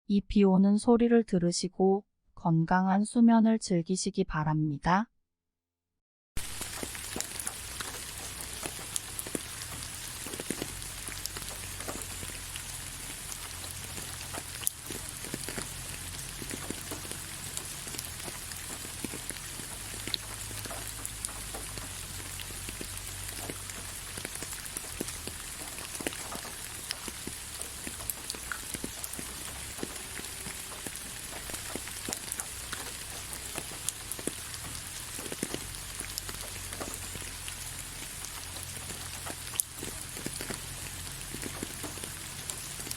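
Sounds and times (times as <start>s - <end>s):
gentle rain hiss: 6.4s - 42.9s
raindrops ticking on a surface: 6.4s - 42.9s.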